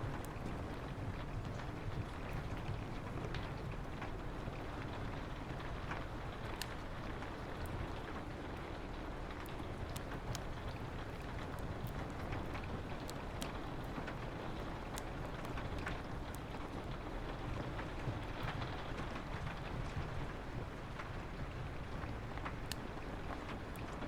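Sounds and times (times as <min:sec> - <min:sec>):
rain falling on a window: 0:00.0 - 0:24.0
wood fire crackling: 0:00.0 - 0:24.0.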